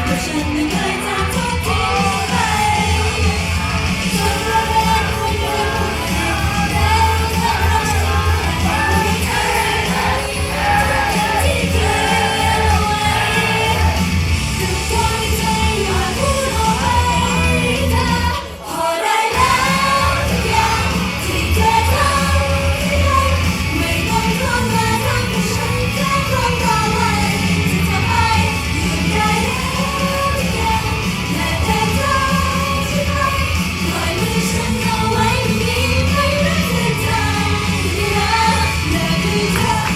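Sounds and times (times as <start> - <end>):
pop song over sound system: 0.0 - 39.9.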